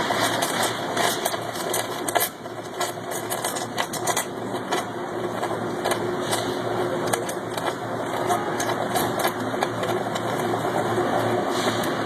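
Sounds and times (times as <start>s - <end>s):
welding arc crackles and clicks: 0.0s - 12.0s
welding equipment humming: 0.0s - 12.0s.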